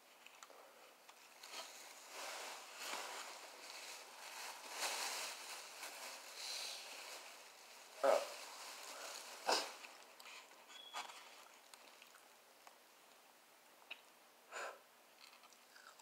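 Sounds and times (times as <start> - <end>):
rustling and handling noise: 0.0 - 13.2.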